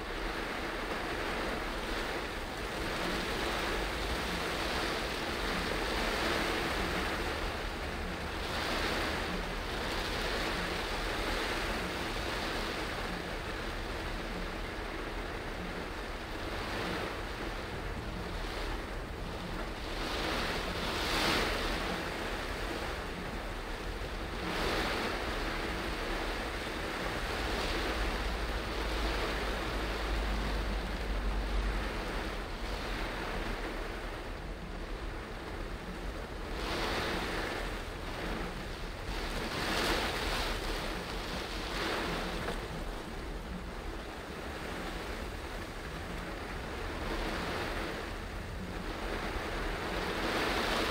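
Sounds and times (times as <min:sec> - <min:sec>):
low road rumble: 0:00.0 - 0:50.9
rain and tyres on wet road: 0:00.0 - 0:50.9.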